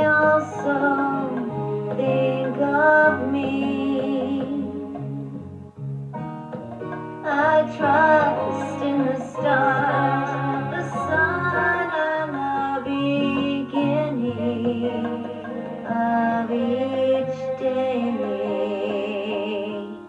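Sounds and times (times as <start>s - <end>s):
person singing: 0.0s - 5.4s, 7.2s - 20.0s
instrumental backing: 0.0s - 20.0s.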